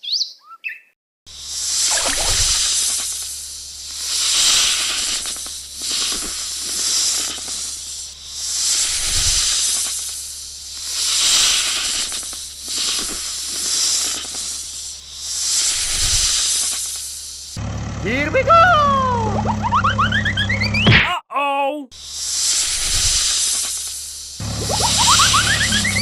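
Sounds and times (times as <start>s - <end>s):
cartoon snake hissing: 1.3s - 20.7s, 21.9s - 26.0s.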